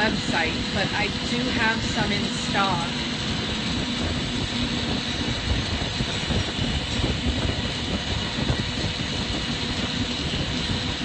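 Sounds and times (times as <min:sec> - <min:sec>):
glassworking torches roaring: 0:00.0 - 0:11.0
ventilation fans running: 0:00.0 - 0:11.0.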